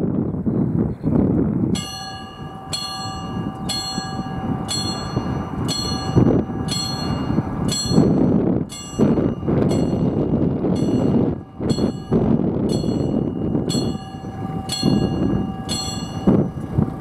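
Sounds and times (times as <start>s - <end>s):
wind noise on microphone: 0.0s - 17.0s
level crossing warning bell: 1.7s - 17.0s.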